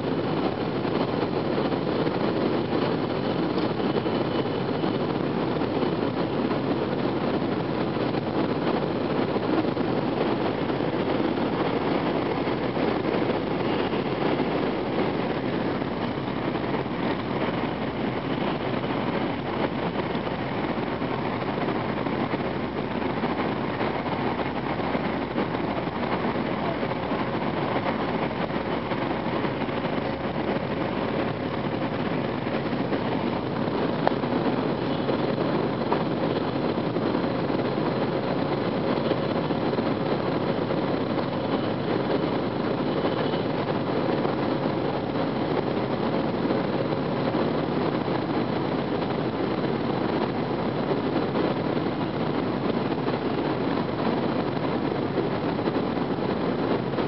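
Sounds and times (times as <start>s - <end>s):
train cabin rush and rumble: 0.0s - 57.0s.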